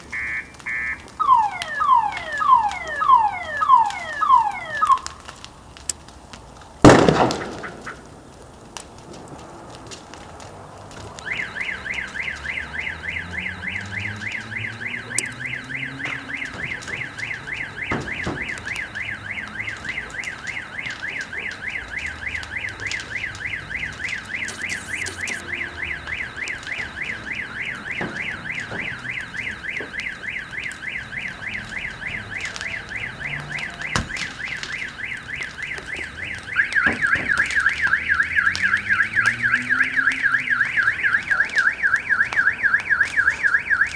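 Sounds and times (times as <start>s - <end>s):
car alarm warbling siren: 0.0s - 5.4s, 11.0s - 43.9s
burning car pops and cracks: 0.0s - 43.9s.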